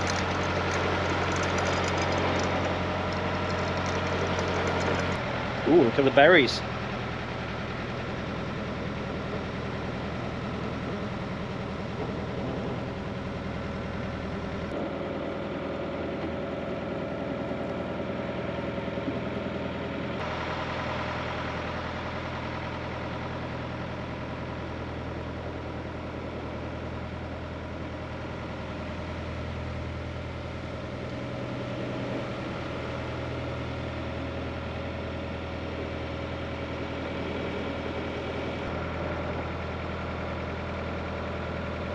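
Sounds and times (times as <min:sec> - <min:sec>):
diesel boat engine humming: 0:00.0 - 0:41.9.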